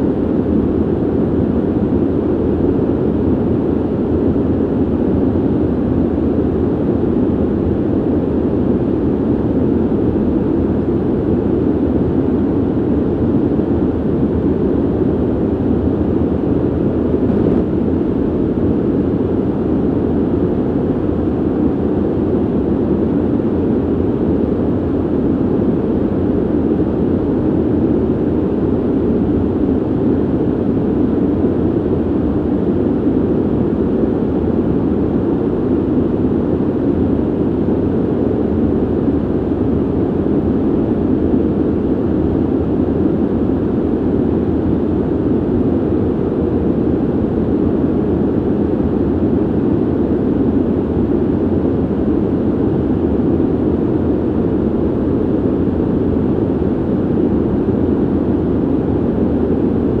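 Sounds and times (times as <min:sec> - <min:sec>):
ventilation air rush: 0:00.0 - 1:00.0.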